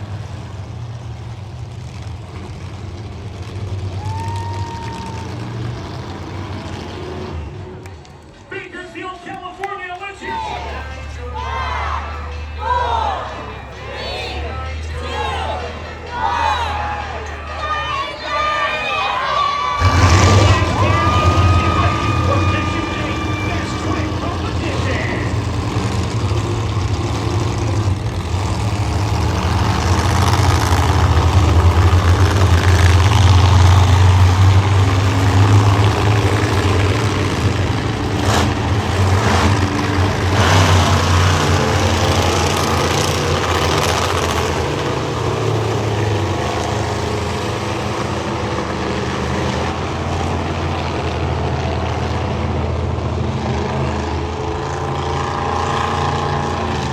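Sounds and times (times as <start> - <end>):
monster truck engine running: 0.0 - 8.8, 10.0 - 56.9.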